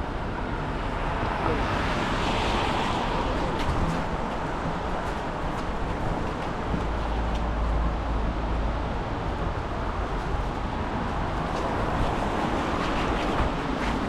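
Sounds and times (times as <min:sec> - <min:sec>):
cars going by: 0:00.2 - 0:14.0.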